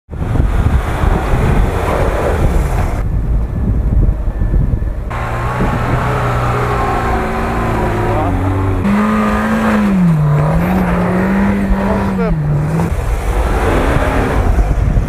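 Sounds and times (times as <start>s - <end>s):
vehicle low rumble: 0.1s - 15.0s
wind buffeting microphone: 0.1s - 15.0s
engine running: 0.2s - 15.0s.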